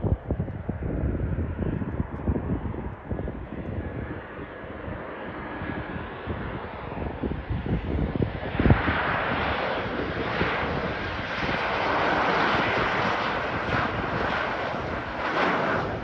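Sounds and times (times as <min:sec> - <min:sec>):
jet airliner roar: 0:00.0 - 0:16.0.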